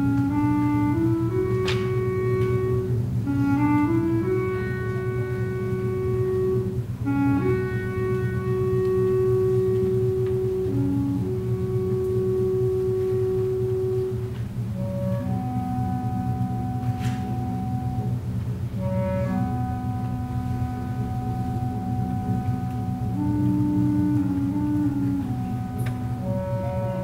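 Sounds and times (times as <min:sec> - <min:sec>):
orchestra playing slow held notes: 0:00.0 - 0:27.0.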